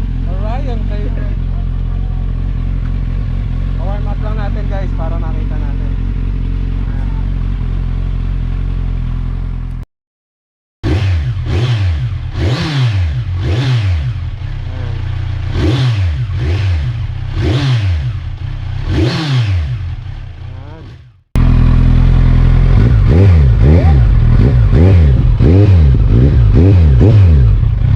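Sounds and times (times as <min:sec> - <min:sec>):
motorcycle engine idling and revving: 0:00.0 - 0:09.8, 0:10.8 - 0:27.9.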